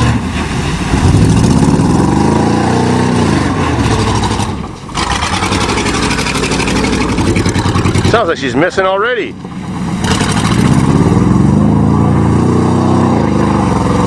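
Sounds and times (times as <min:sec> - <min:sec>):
truck engine revving hard: 0:00.0 - 0:08.8, 0:09.4 - 0:14.0.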